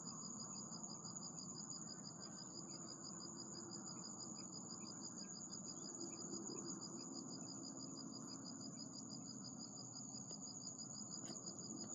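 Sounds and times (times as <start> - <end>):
insect chirping trill: 0.0 - 11.9.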